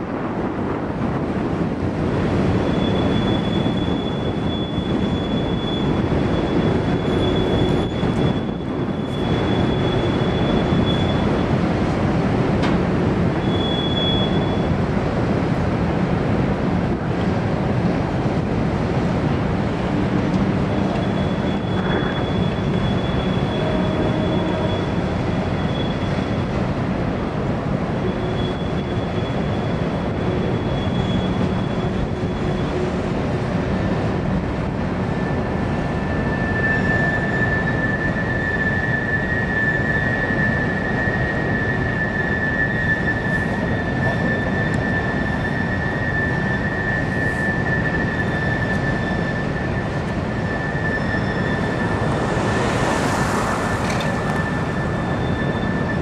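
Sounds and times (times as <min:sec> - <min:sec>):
wheels rumbling on rail: 0:00.0 - 0:56.0
high wheel squeal: 0:02.4 - 0:12.0, 0:13.3 - 0:14.8, 0:20.4 - 0:27.2, 0:27.8 - 0:34.2, 0:34.8 - 0:56.0.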